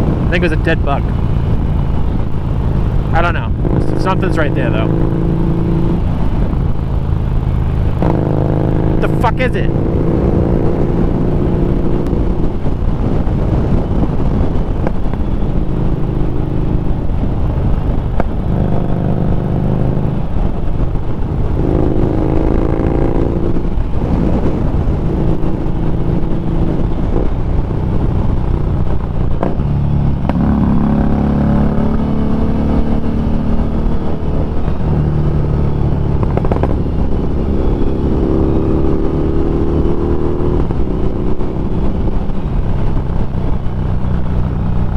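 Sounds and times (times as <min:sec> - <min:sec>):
motorcycle engine running: 0:00.0 - 0:44.9
wind rush: 0:00.0 - 0:44.9.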